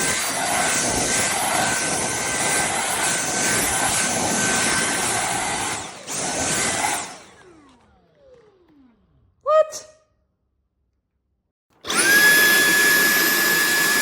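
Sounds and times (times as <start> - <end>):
vacuum cleaner whining: 0.0 - 9.4, 11.8 - 14.0.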